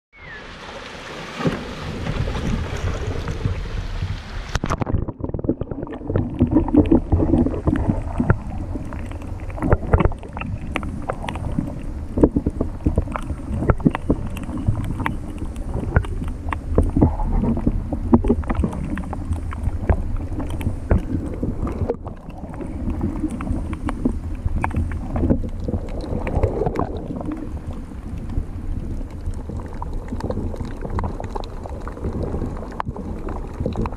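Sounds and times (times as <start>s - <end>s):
wind: 0.1s - 33.9s
low underwater rumble: 0.2s - 33.9s
water splashing: 0.2s - 33.9s
underwater clicks and pops: 4.5s - 33.9s.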